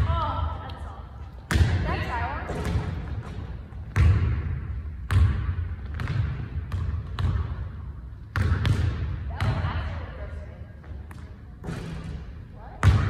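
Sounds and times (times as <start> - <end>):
basketballs bouncing on gym floor: 0.0 - 13.0.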